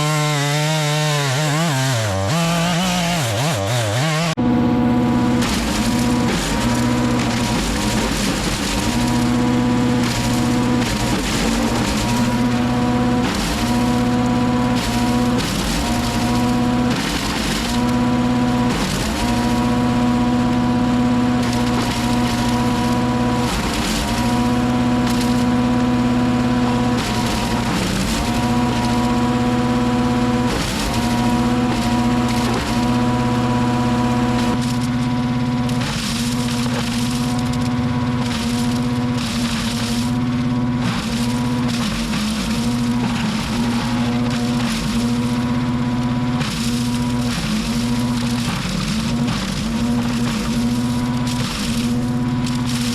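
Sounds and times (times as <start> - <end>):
wood chipper engine running: 0.0 - 52.9
wood crunching and splintering: 0.0 - 52.9.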